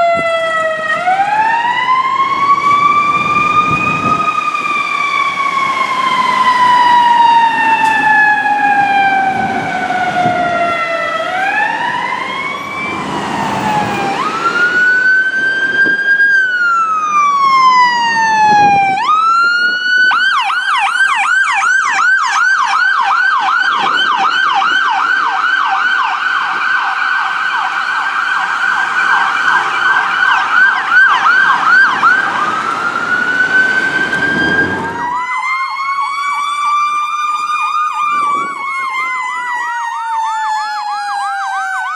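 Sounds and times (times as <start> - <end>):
ambulance siren wailing: 0.0 - 41.9
siren fast yelp: 0.0 - 41.9.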